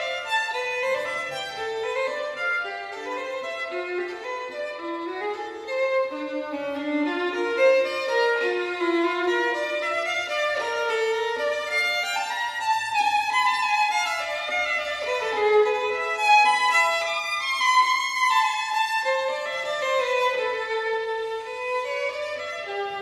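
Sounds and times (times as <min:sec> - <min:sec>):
violin-like melody: 0:00.0 - 0:23.0.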